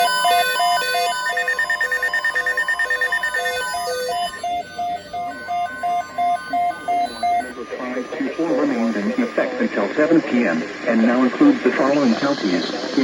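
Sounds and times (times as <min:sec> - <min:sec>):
alternating low and high beeps: 0:00.0 - 0:13.0
fast pulsing beep: 0:00.0 - 0:13.0.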